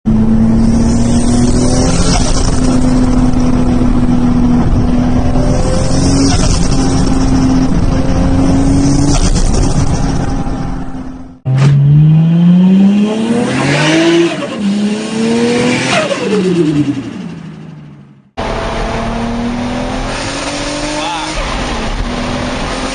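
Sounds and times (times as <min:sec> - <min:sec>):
turbocharged car engine revving: 0:00.1 - 0:17.3, 0:18.4 - 0:22.9.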